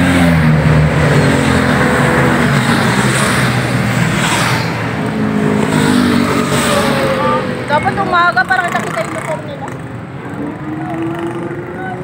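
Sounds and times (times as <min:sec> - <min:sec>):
motorcycles passing by: 0:00.0 - 0:12.0.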